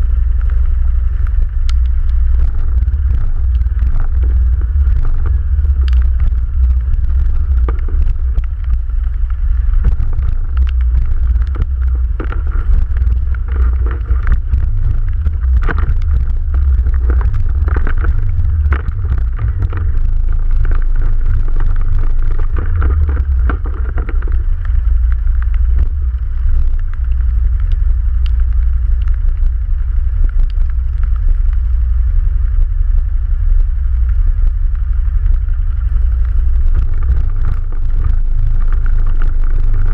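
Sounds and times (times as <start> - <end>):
atv engine rumbling: 0.0 - 39.9.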